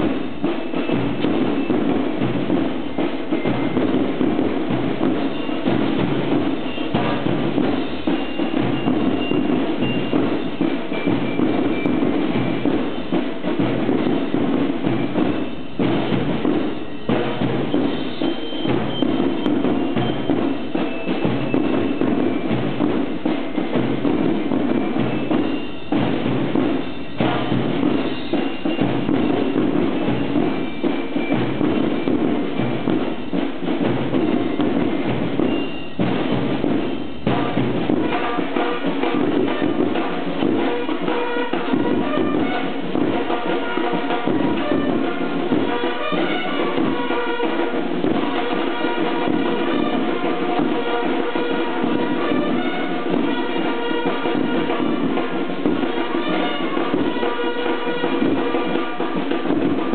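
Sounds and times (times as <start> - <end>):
marching band drums: 0.0 - 59.9.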